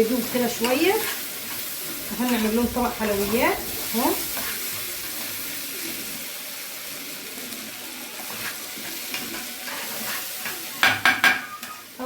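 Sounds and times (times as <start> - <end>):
spoon scraping a pan: 0.0 - 6.2, 8.2 - 12.0
food sizzling in a pan: 0.0 - 12.0.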